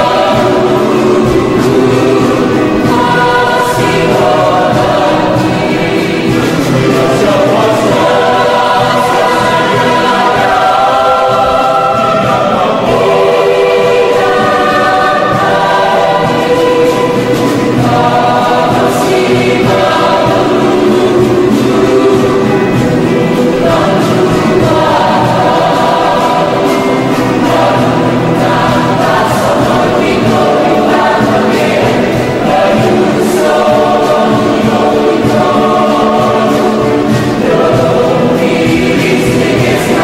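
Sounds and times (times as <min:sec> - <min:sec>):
acoustic guitar: 0:00.0 - 0:40.0
mixed choir singing in harmony: 0:00.0 - 0:40.0.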